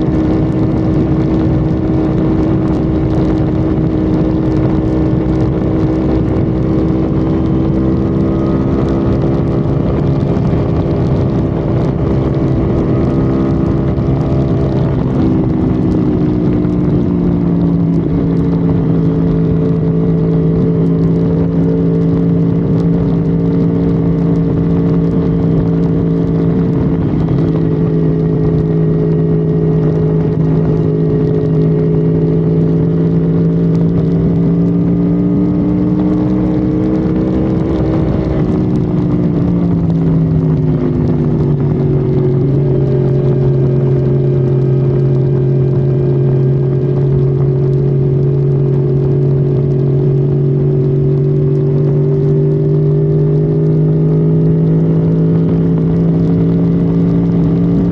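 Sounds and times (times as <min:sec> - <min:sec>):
car engine droning inside car: 0:00.0 - 0:57.9.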